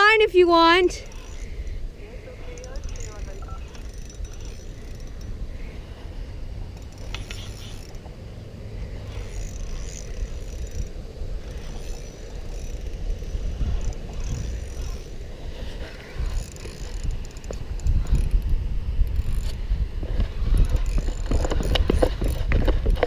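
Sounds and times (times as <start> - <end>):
fishing reel clicking and whirring: 0.8 - 23.0.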